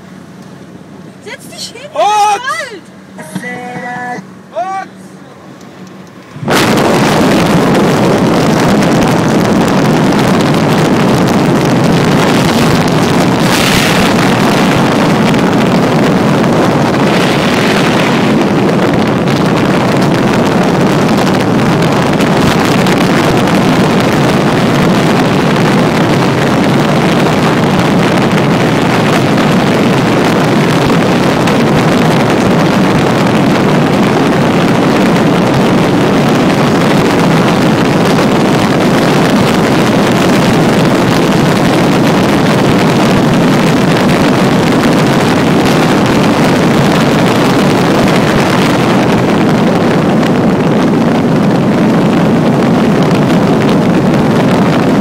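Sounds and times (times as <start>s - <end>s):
wind and road noise on microphone: 0.0s - 55.0s.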